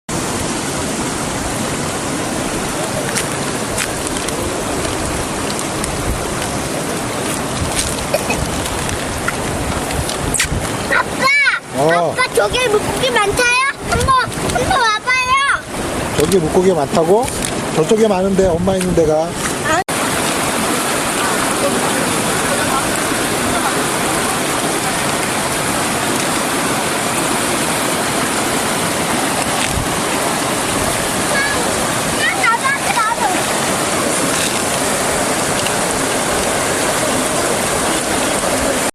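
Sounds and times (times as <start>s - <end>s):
small water splashes: 0.1s - 38.9s
stream rushing: 0.1s - 38.9s.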